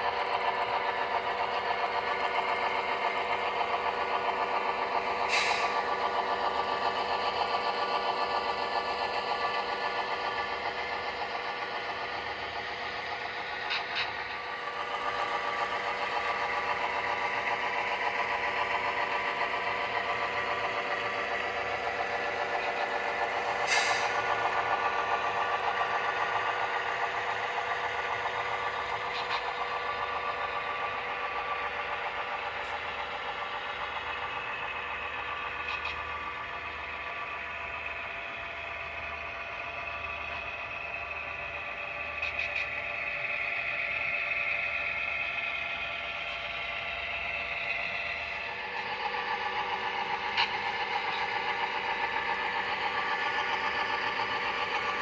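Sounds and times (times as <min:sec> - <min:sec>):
model diesel locomotive engine: 0:00.0 - 0:55.0
train wheels clicking on track: 0:00.0 - 0:55.0.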